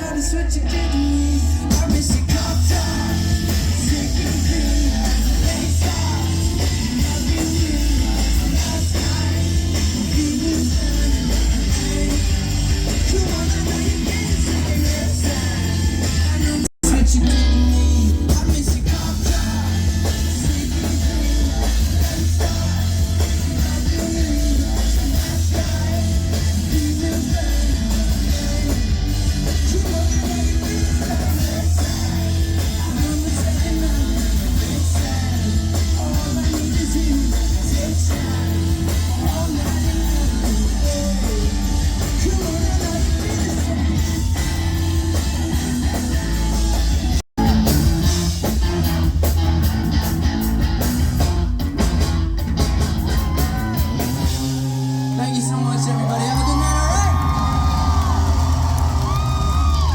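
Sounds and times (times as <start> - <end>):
heavy booming bass: 0.0 - 54.9
drums: 0.0 - 59.9
electric guitar: 0.0 - 59.9
rock band playing live: 0.0 - 59.9.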